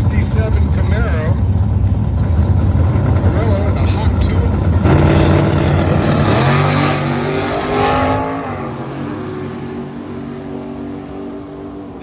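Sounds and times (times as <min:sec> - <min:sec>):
drag cars accelerating at full throttle: 0:00.0 - 0:12.0.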